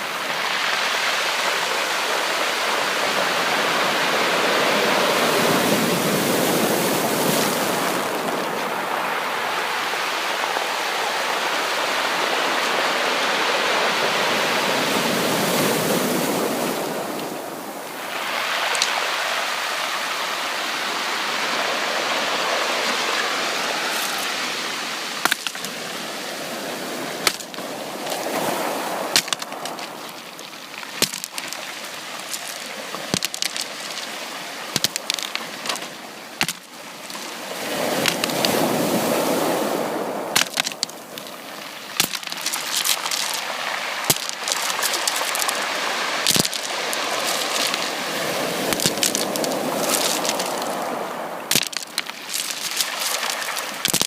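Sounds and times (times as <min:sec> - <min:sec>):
sea surf washing in: 0:00.0 - 0:54.0.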